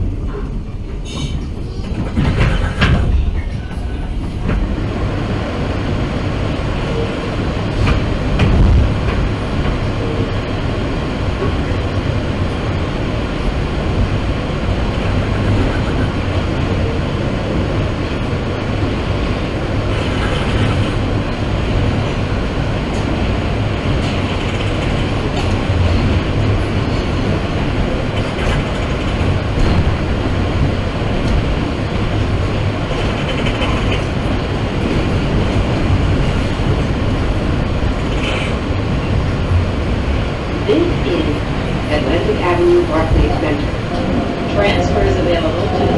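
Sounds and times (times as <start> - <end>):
subway train rumble and rattle: 0.0 - 45.9.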